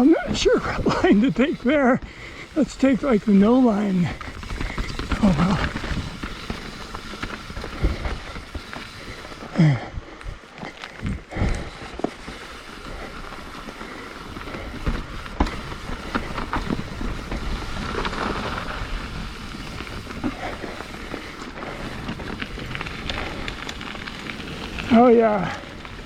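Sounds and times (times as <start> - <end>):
tyres and wind rushing: 0.0 - 26.0.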